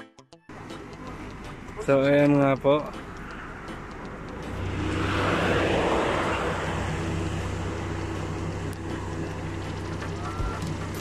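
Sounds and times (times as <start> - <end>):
engine humming: 0.5 - 11.0.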